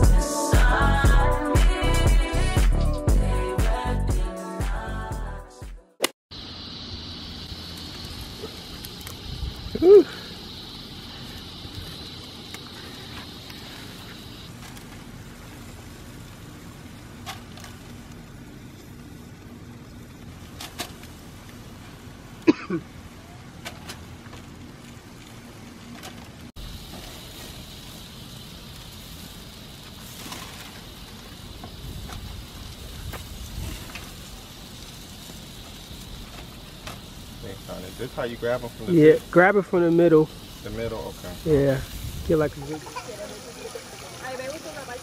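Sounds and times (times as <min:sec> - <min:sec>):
food sizzling on a grill: 0:00.0 - 0:04.0, 0:06.3 - 0:45.0
steady low gas rush: 0:06.4 - 0:45.0.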